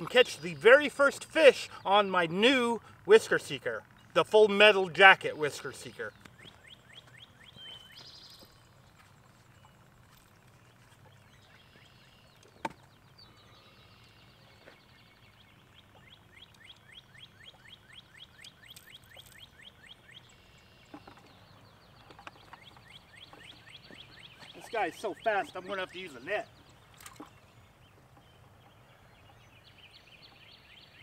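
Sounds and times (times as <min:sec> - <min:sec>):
bird chirping: 0:00.0 - 0:31.0.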